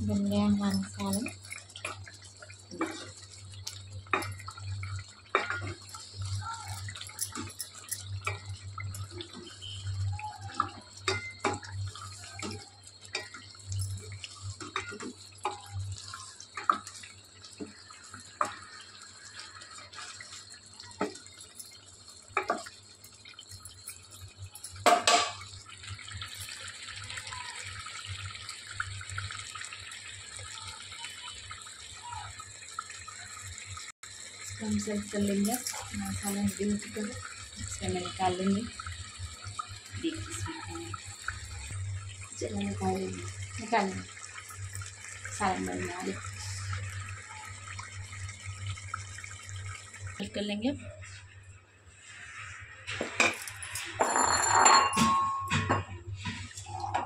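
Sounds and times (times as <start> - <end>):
curry bubbling: 0.0 - 57.0.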